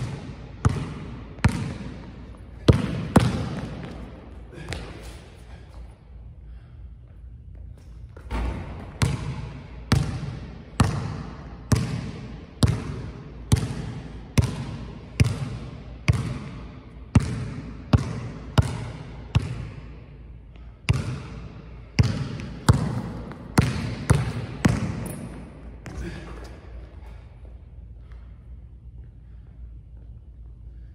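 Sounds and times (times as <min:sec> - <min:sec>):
basketball bouncing in echoing gym: 0:00.0 - 0:30.9.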